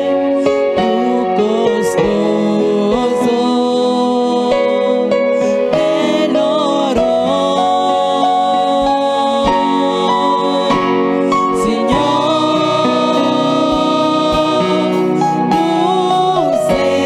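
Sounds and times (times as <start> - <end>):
worship music with singing: 0.0 - 17.0.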